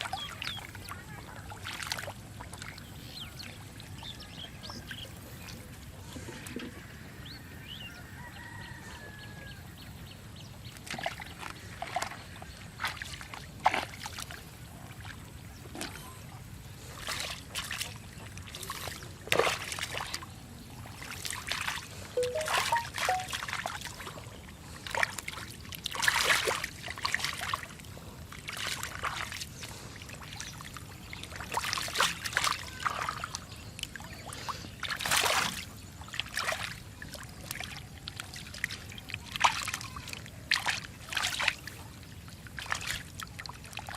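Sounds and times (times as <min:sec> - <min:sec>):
muddy water splashing: 0:00.0 - 0:07.3, 0:10.7 - 0:43.9.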